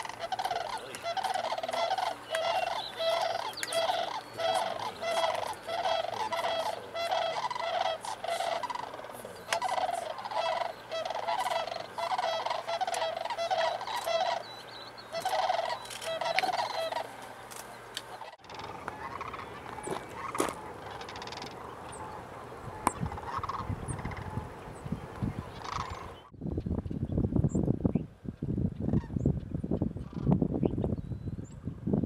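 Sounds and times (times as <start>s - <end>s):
cranes bugling: 0.0s - 26.3s.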